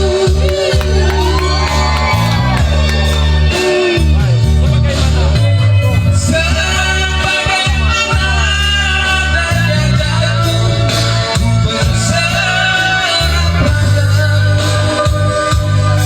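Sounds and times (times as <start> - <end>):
instrumental accompaniment: 0.0 - 16.0
sustained bass line: 0.0 - 16.0.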